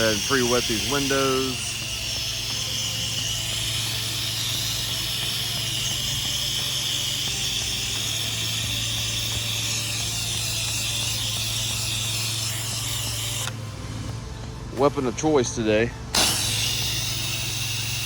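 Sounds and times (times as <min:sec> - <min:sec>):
water jet hissing: 0:00.0 - 0:14.1, 0:16.1 - 0:18.0
pressure washer engine droning: 0:00.0 - 0:18.0.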